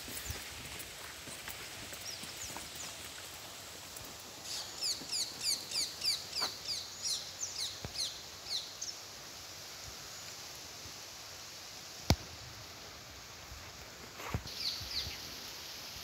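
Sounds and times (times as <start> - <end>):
open-air background hiss: 0.0 - 16.0.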